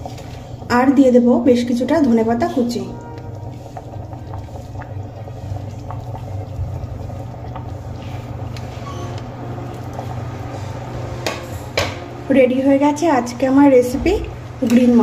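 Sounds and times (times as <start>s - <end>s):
low hum: 0.0s - 14.7s
curry boiling with pops: 0.0s - 15.0s.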